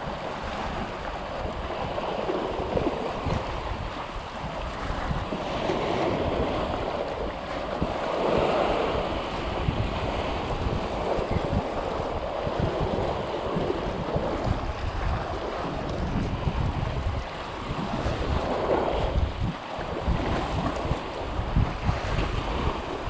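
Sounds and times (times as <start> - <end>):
sea water wash: 0.0 - 23.0
wind buffeting microphone: 0.0 - 23.0.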